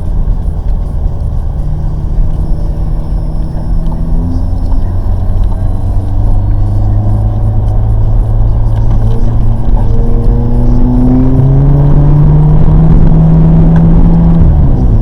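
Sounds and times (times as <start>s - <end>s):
car engine accelerating: 0.0s - 15.0s
low road rumble: 0.0s - 15.0s.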